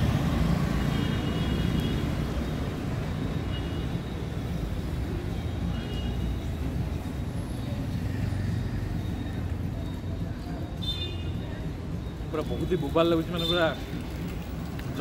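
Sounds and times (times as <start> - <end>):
motorcycles and cars passing: 0.0 - 15.0.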